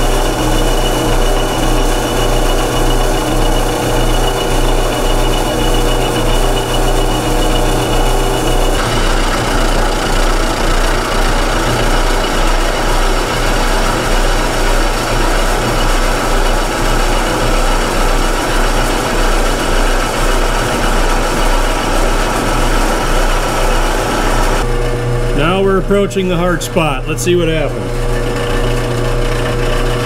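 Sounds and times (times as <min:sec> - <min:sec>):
machine running hum: 0:00.0 - 0:30.0
milling machine cutting metal: 0:00.0 - 0:30.0.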